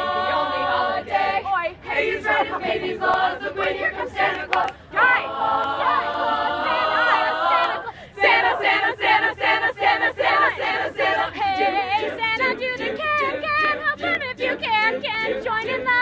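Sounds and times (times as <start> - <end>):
youth choir singing in harmony: 0.0 - 16.0.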